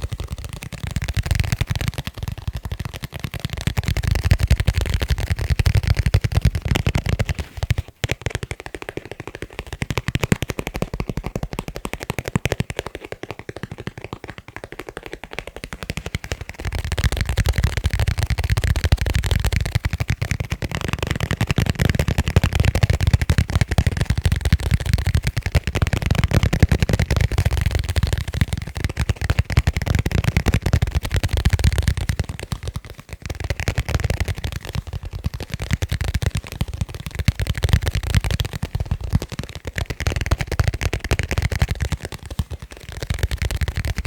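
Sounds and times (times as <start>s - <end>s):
fingers tapping on leather cases: 0.0s - 44.0s.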